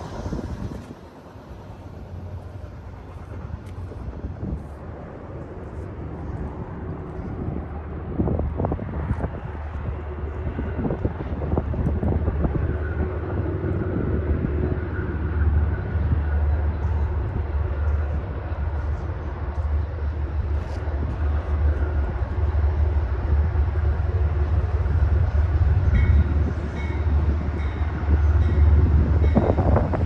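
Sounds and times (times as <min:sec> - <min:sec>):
diesel locomotive rumble: 0:00.0 - 0:30.0.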